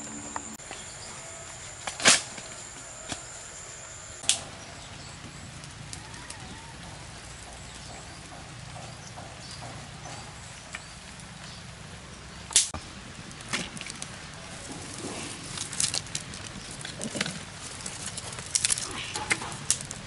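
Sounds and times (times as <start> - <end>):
twigs and leaves crackling in fire: 0.6 - 20.0.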